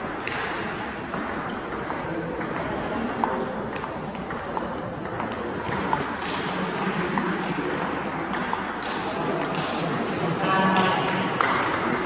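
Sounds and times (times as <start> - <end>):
sports hall hum: 0.0 - 12.0.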